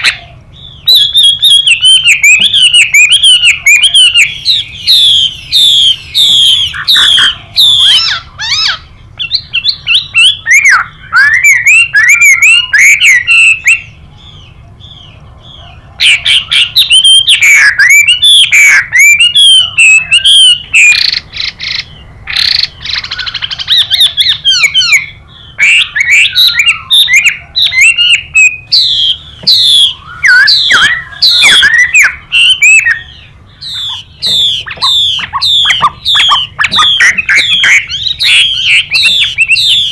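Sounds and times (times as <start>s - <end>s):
bird whistled song: 0.0s - 39.9s
harsh buzzy bird calls: 0.0s - 39.9s.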